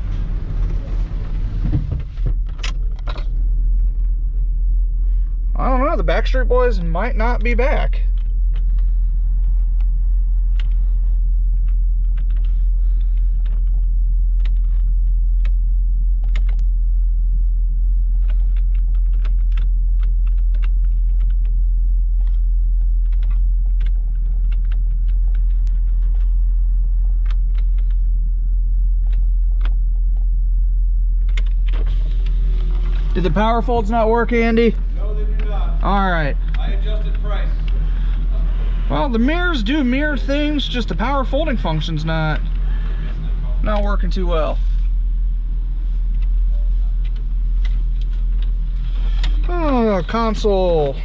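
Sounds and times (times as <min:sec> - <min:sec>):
engine idling low rumble: 0:00.0 - 0:51.0.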